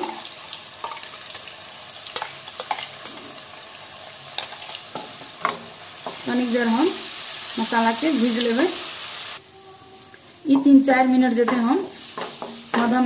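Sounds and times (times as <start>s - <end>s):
paste sizzling in hot oil: 0.0s - 9.4s, 10.3s - 13.0s.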